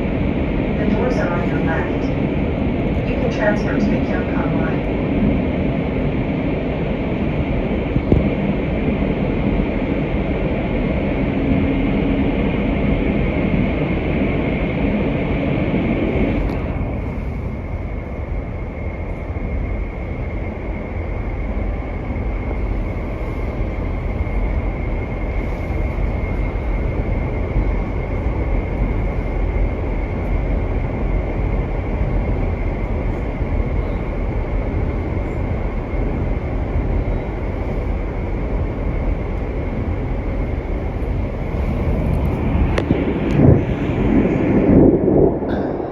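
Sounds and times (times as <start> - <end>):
train cabin low rumble: 0.0 - 45.9.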